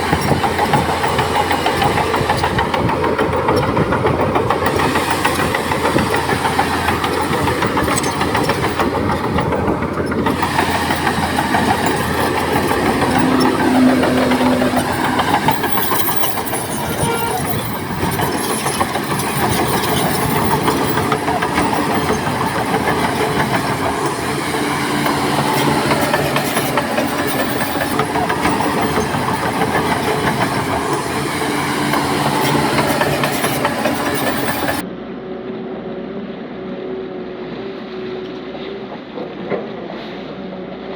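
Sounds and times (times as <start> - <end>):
clanking and grinding of rock: 0.0 - 34.8
diesel engine running under load: 0.0 - 34.8.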